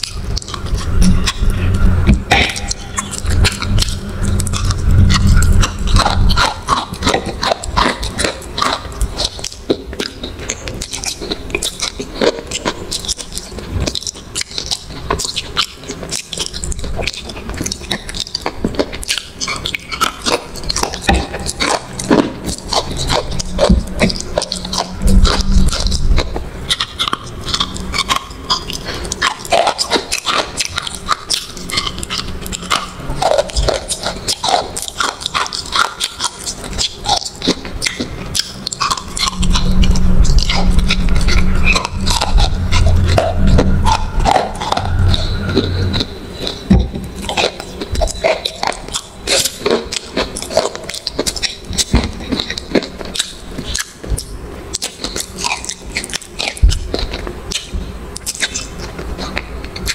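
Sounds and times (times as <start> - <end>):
crunching and chewing food: 0.0 - 59.9
low drone: 0.0 - 59.9.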